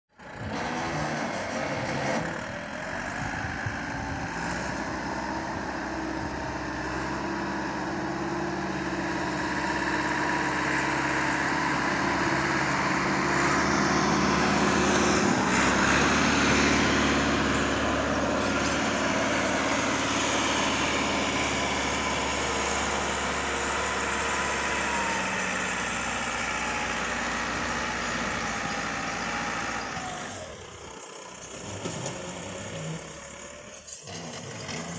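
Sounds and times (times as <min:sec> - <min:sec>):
tractor diesel engine working hard: 0:00.1 - 0:34.9.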